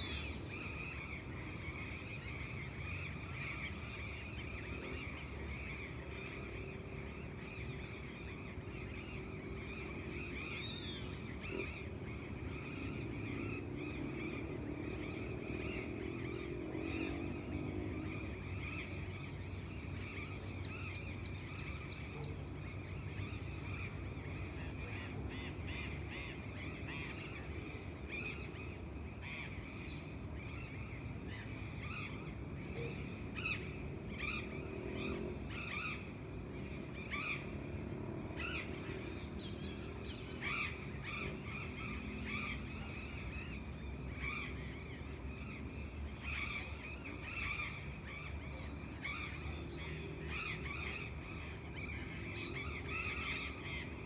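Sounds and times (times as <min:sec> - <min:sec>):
birds chirping and calling: 0:00.0 - 0:54.0
distant traffic rumble: 0:00.0 - 0:54.0.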